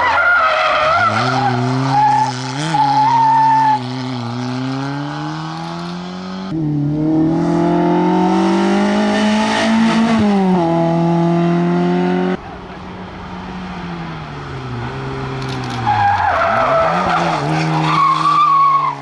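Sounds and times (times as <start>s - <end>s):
rally car engine revving: 0.7s - 12.4s, 13.8s - 19.0s.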